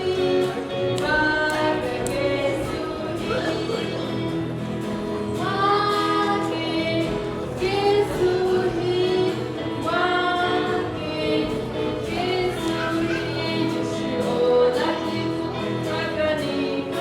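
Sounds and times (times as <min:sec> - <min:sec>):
children singing: 0:00.0 - 0:17.0
musical accompaniment: 0:00.0 - 0:17.0.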